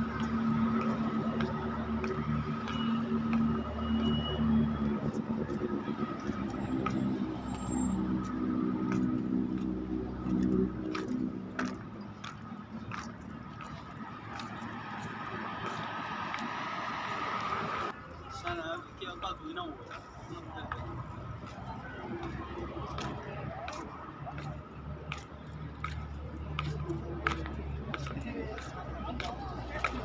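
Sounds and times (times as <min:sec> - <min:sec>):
car engines on busy road: 0:00.0 - 0:30.0.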